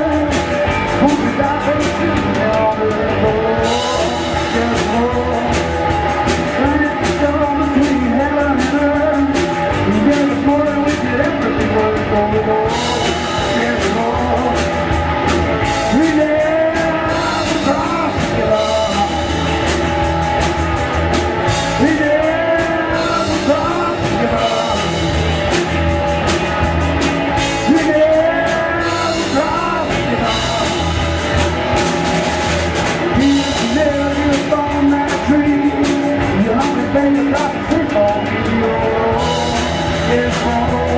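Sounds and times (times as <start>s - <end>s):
rock music with singing: 0.0s - 40.9s.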